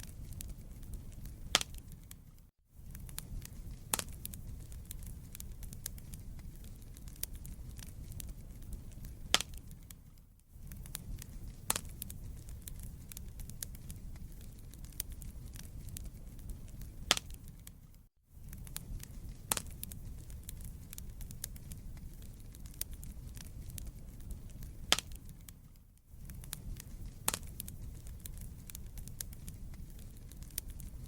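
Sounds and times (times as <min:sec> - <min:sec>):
logs popping: 0:00.0 - 0:02.2, 0:02.9 - 0:10.0, 0:10.7 - 0:17.8, 0:18.4 - 0:31.0
fire crackling: 0:00.0 - 0:31.0
fire flame rumble: 0:00.0 - 0:31.0.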